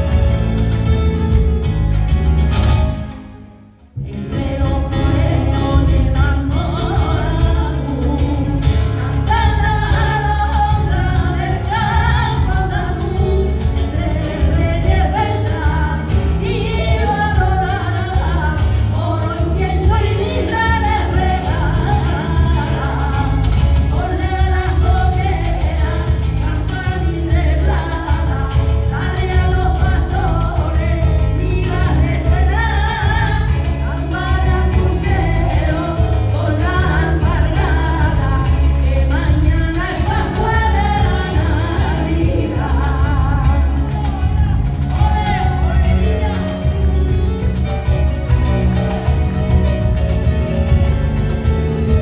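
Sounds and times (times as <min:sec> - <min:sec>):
hand percussion: 0:00.0 - 0:03.2, 0:04.0 - 0:52.0
acoustic guitar: 0:00.0 - 0:52.0
women singing through a pa: 0:04.0 - 0:47.0.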